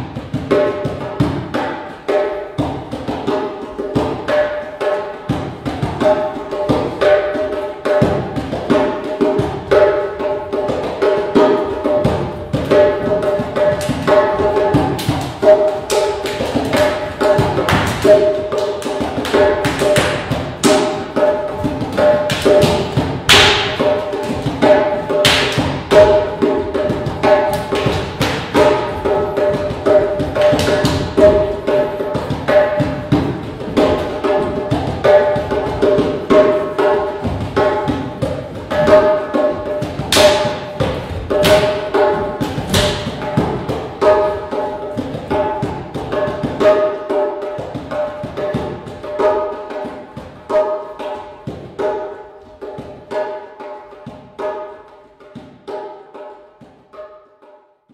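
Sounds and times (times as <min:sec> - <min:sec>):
djembe hand drumming: 0:00.0 - 0:57.5.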